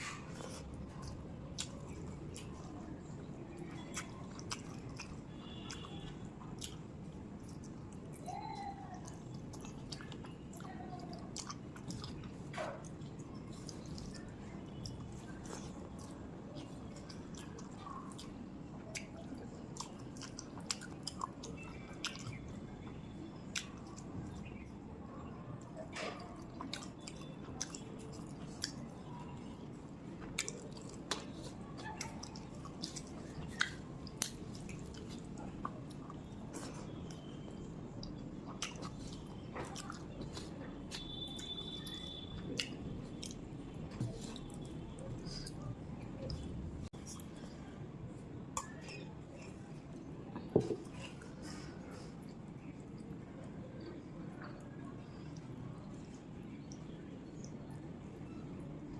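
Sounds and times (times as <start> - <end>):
close-up chewing and mouth sounds: 0.0 - 58.3
low background hum: 0.0 - 58.9.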